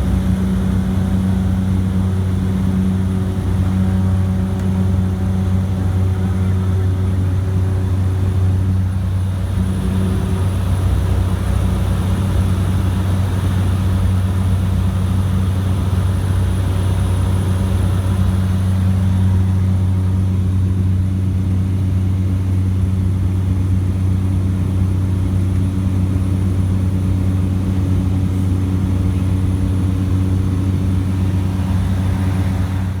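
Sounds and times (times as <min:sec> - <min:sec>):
machine droning hum: 0:00.0 - 0:33.0.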